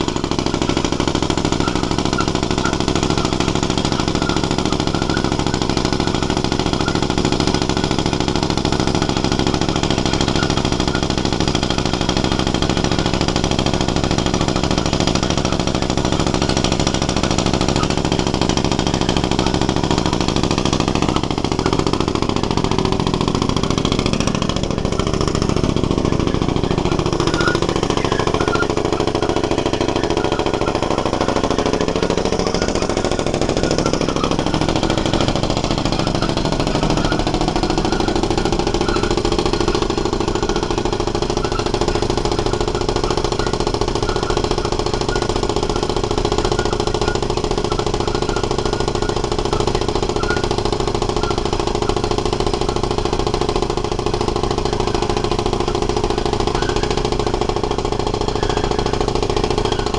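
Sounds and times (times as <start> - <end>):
pneumatic hammer drilling into rock: 0.0 - 59.9
running machinery: 0.0 - 59.9.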